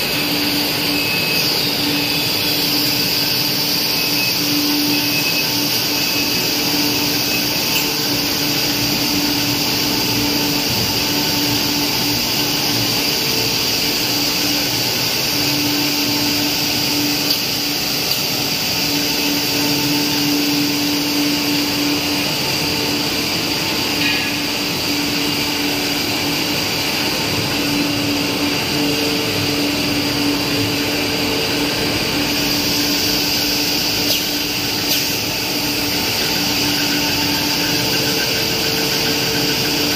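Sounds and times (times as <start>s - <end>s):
factory machine noise: 0.0s - 39.9s
machine hum: 0.0s - 39.9s.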